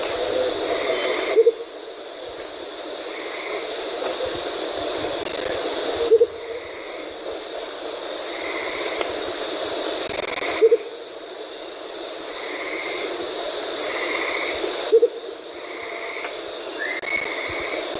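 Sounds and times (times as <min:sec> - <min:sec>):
high-pitched background drone: 0:00.0 - 0:17.9.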